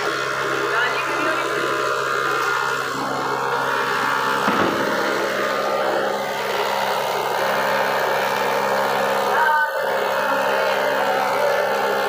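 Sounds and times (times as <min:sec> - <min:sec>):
machine motor humming: 0:00.0 - 0:12.0.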